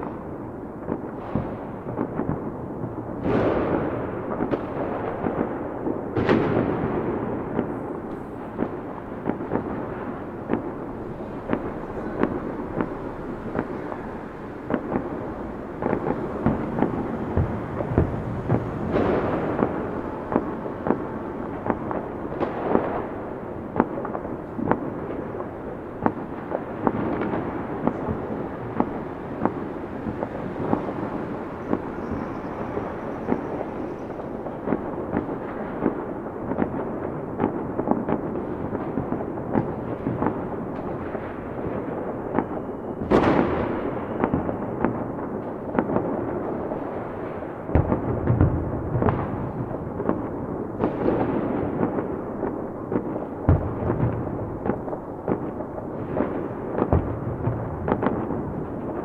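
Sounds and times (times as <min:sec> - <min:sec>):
fireworks bangs: 0:00.0 - 0:59.0
fireworks crackling: 0:00.0 - 0:59.0
distant booms: 0:00.8 - 0:59.0.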